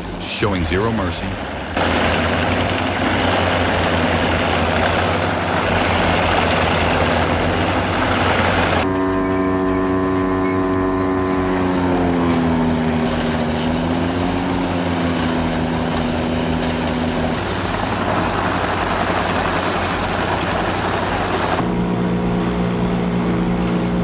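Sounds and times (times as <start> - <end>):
wood chipper engine running: 0.0 - 24.0.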